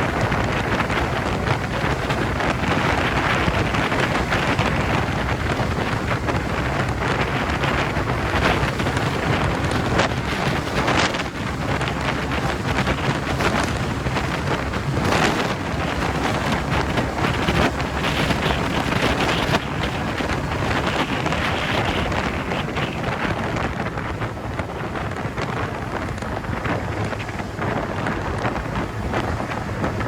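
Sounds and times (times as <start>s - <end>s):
low road and engine rumble: 0.0s - 30.0s
wind rushing over microphone: 0.0s - 30.0s.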